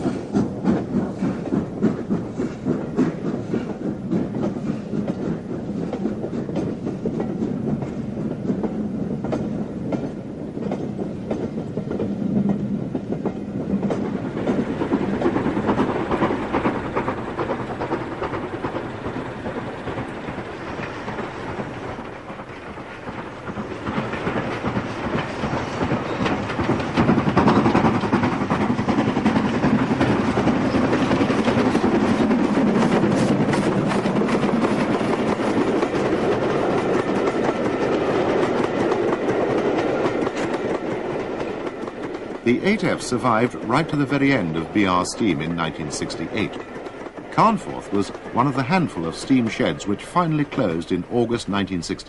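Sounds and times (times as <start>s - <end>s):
steam locomotive passing: 0.0s - 52.0s
train coaches clattering over rail joints: 0.0s - 52.0s.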